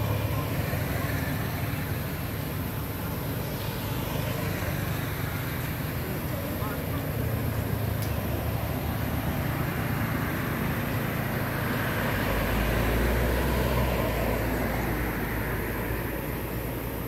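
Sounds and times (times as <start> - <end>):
passing traffic engine rumble: 0.0 - 17.0.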